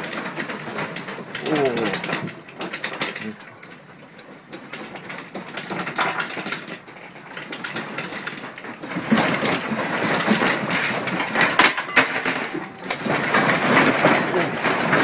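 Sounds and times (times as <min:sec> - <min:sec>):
household objects rattling: 0:00.0 - 0:15.0.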